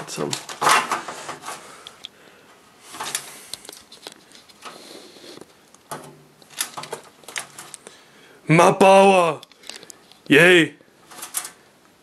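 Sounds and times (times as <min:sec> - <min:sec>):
hands rustling wiring: 0:00.0 - 0:08.0, 0:09.0 - 0:10.4, 0:11.0 - 0:12.0.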